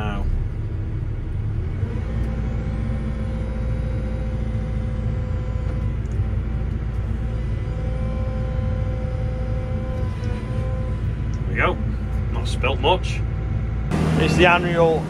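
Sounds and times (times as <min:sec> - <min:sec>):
diesel engine running under load: 0:00.0 - 0:15.0
steady whine: 0:00.0 - 0:15.0.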